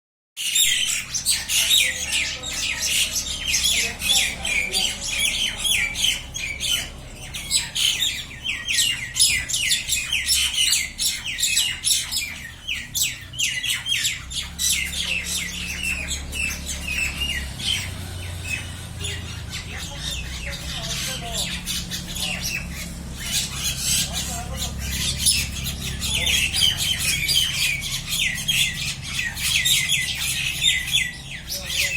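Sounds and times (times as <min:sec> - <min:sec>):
mynas squawking: 0:00.4 - 0:31.9.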